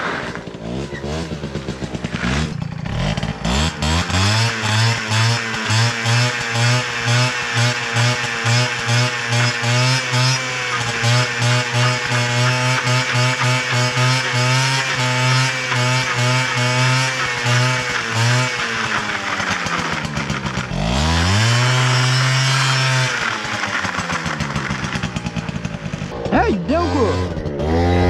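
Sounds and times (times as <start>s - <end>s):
moped engine revving: 0.0s - 28.0s.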